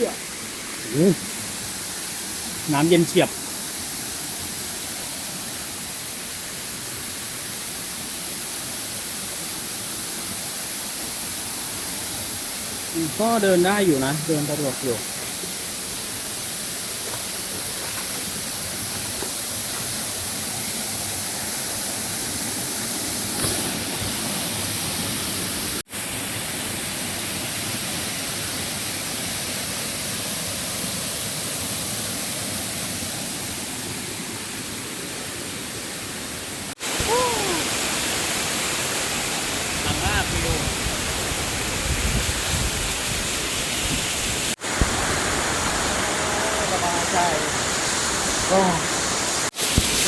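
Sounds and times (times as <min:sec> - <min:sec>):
waterfall roaring: 0:00.0 - 0:26.1, 0:31.3 - 0:50.0.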